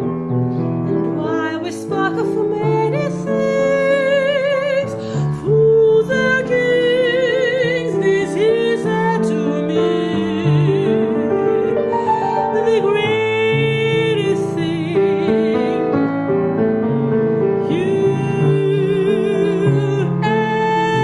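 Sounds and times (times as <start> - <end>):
piano accompaniment: 0.0 - 21.0
person singing with vibrato: 1.2 - 16.1, 17.5 - 21.0.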